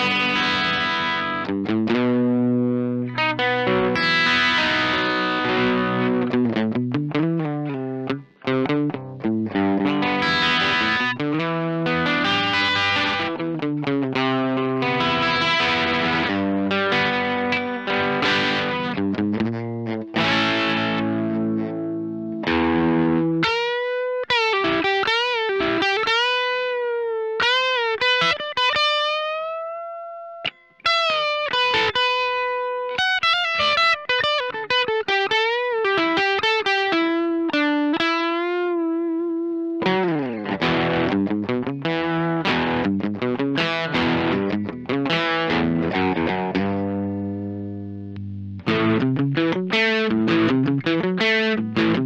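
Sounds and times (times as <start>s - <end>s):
electric guitar playing: 0.0s - 52.0s.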